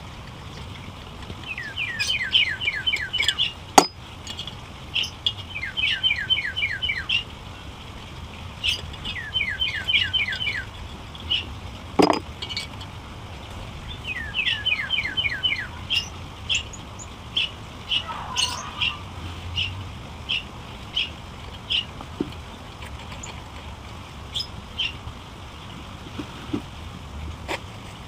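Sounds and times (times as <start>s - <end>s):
songbird singing: 0.0s - 7.4s, 8.2s - 26.6s.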